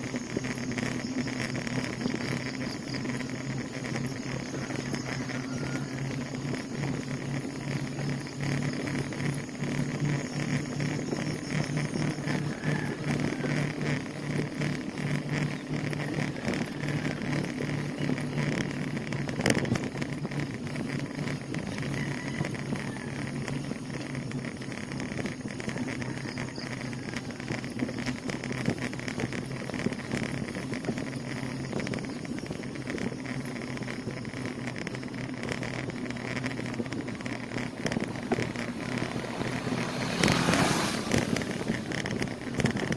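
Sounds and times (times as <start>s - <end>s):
bicycle rolling on road: 0.0s - 42.9s
low steady hum: 0.0s - 42.9s.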